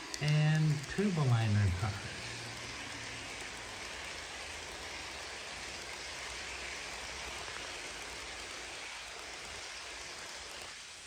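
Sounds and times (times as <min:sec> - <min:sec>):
model train wheels hissing on rails: 0:00.0 - 0:11.0.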